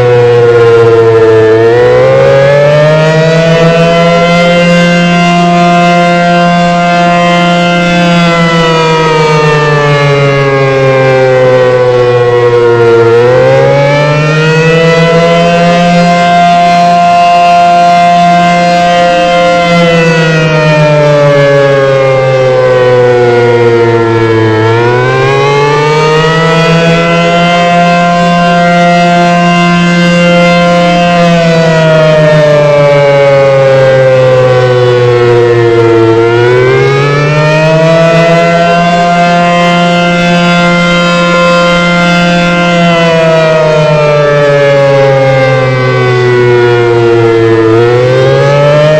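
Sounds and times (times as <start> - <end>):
warning siren wailing: 0.0 - 48.9.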